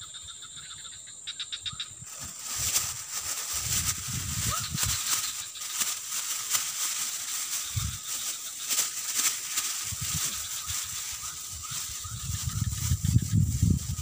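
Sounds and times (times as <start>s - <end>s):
plastic bag rustling: 2.1s - 14.0s.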